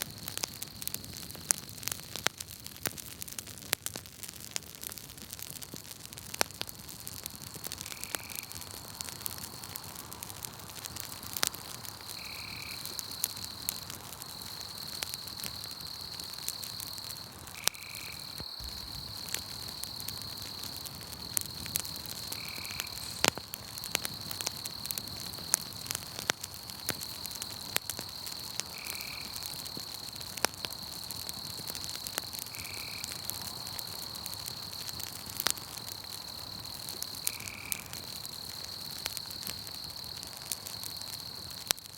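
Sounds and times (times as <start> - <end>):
campfire crackling and popping: 0.0 - 41.9
night insects trilling: 6.7 - 41.9.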